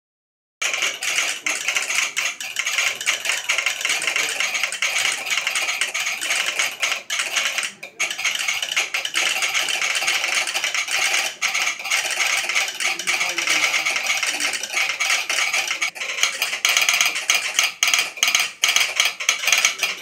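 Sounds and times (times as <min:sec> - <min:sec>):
telegraph sounders clicking: 0:00.6 - 0:20.0.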